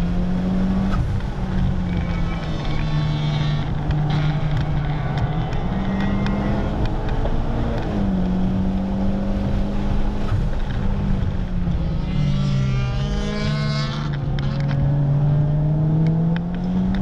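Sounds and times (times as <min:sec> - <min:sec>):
car engine running at speed: 0:00.0 - 0:17.0
wind and road noise: 0:00.0 - 0:17.0.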